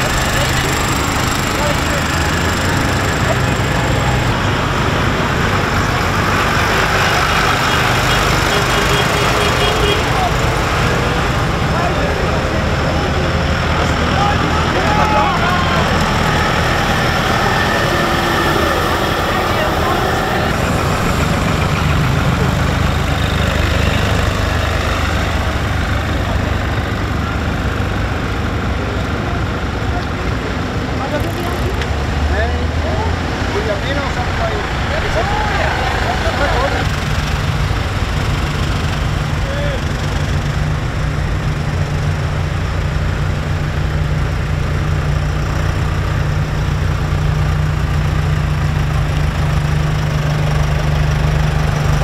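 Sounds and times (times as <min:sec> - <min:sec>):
tractor engines running: 0:00.0 - 0:52.0.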